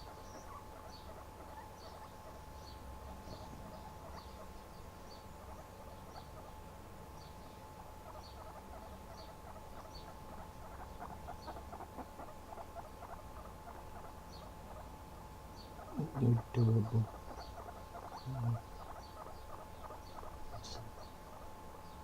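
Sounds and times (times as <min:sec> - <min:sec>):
guinea pig squeaking: 0:00.0 - 0:22.0.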